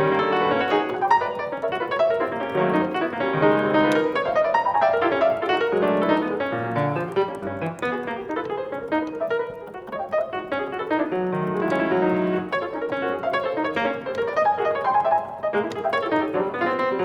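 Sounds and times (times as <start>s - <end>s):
piano playing quick notes: 0.0s - 17.0s.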